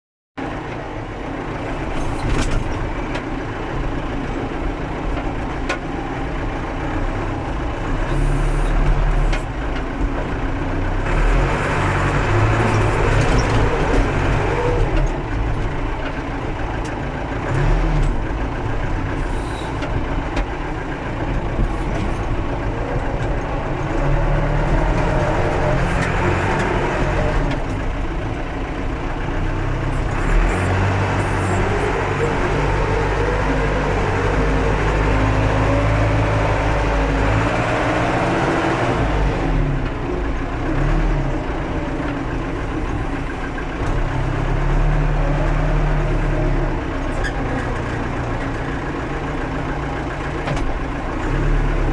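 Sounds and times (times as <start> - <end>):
backhoe engine working: 0.4 - 51.9.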